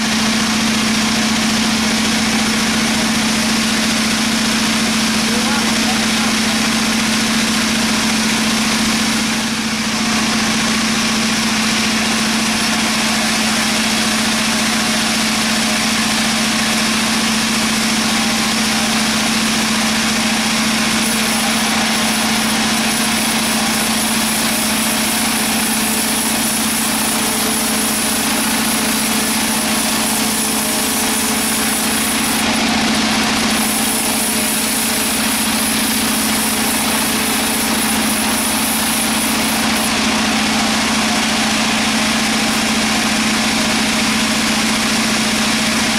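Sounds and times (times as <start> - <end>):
sawmill machinery drone: 0.0 - 45.9.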